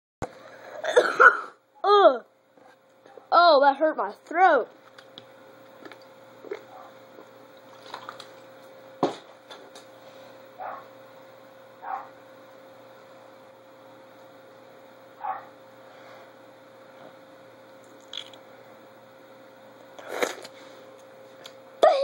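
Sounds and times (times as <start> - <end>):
steady electrical hum: 0.2 - 22.0.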